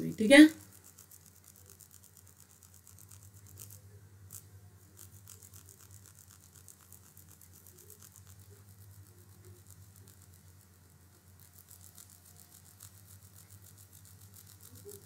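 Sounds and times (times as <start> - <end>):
faint low hum: 0.0 - 15.0
faint rapid crackle of ticks: 0.2 - 15.0.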